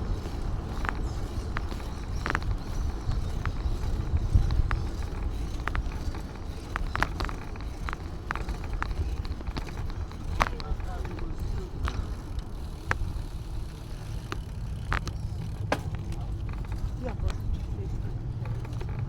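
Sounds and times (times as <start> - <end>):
sharp clicks and ticks: 0.0 - 19.0
wind buffeting microphone: 0.0 - 19.0.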